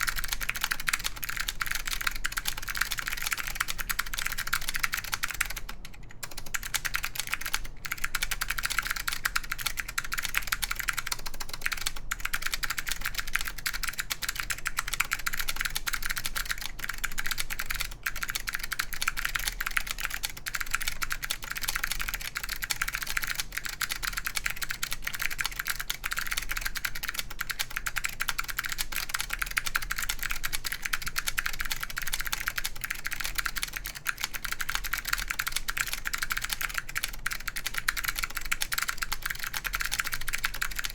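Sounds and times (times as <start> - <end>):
clicky mechanical keyboard typing: 0.0 - 40.9.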